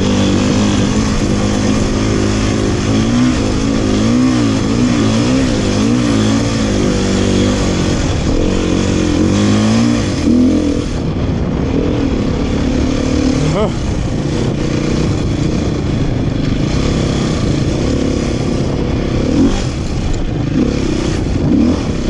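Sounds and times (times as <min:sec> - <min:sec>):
dirt bike engine revving: 0:00.0 - 0:22.0
wind and road noise: 0:00.0 - 0:22.0.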